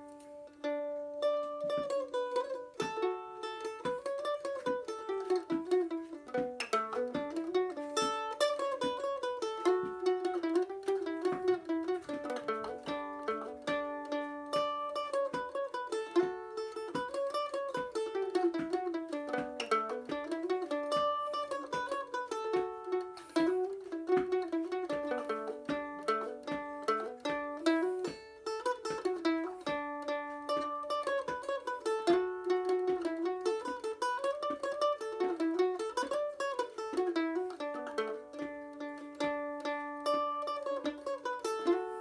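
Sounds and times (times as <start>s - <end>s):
plucked string instrument melody: 0.0s - 42.0s.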